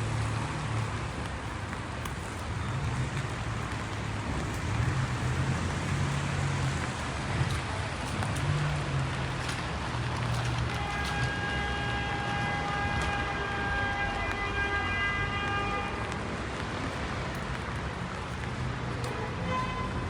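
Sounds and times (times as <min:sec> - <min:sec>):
passing traffic on wet street: 0:00.0 - 0:20.0
rain: 0:00.0 - 0:20.0
vehicle engine humming: 0:00.0 - 0:20.0.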